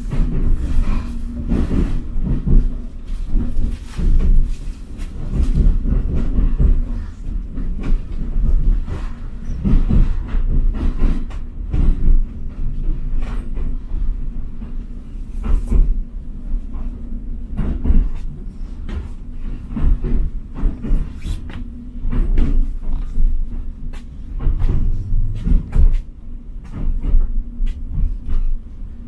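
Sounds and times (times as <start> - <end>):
train rumbling on track: 0.0 - 29.0.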